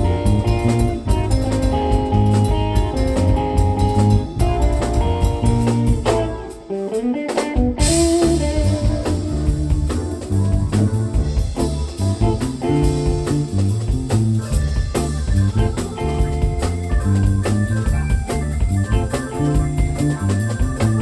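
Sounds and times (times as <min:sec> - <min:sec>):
live band playing: 0:00.0 - 0:21.0.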